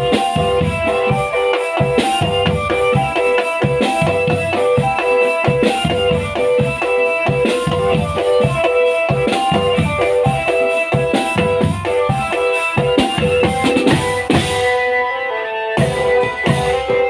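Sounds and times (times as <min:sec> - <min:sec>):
marching drums: 0:00.0 - 0:14.9, 0:15.8 - 0:17.0
bass drum beats: 0:00.0 - 0:15.0, 0:15.8 - 0:17.0
melody of held notes: 0:00.0 - 0:17.0.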